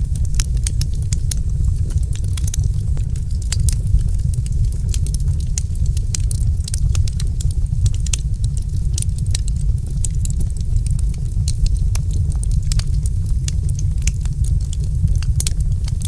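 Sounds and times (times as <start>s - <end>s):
fire pops and snaps: 0.0s - 16.0s
low rumble of flames: 0.0s - 16.0s.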